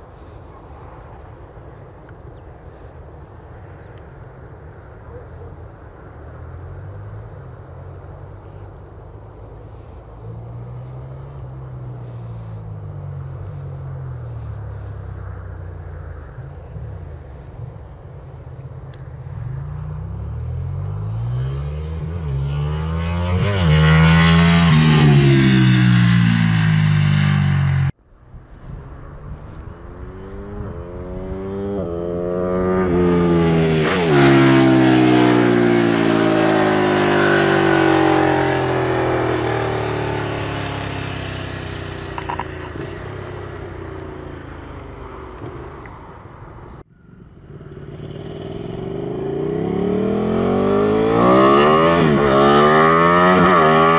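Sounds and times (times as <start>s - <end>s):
motorcycle engine accelerating past: 0.1s - 0.8s, 2.7s - 3.0s, 9.6s - 53.9s.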